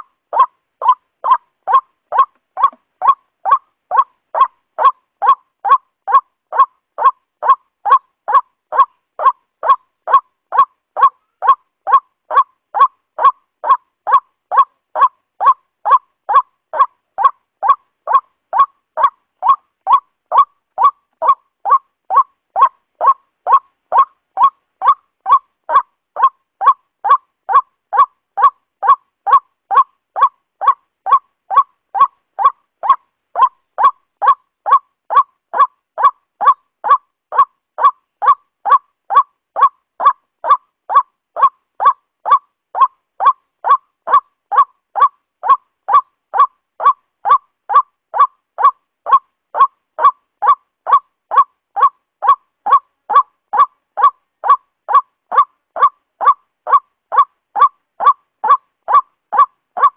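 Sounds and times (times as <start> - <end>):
waterhen calling: 0.0 - 59.9.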